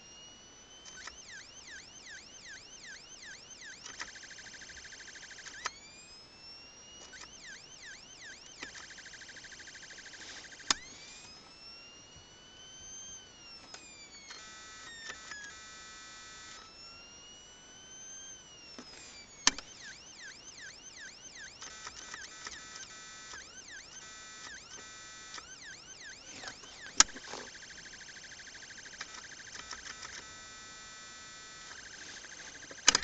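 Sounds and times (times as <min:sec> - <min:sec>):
siren wailing and yelping: 0:00.0 - 0:33.0.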